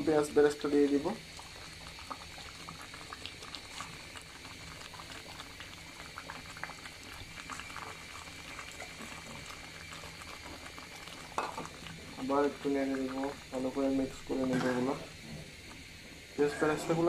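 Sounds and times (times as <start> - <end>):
thick stew bubbling in a pot: 0.0 - 17.0.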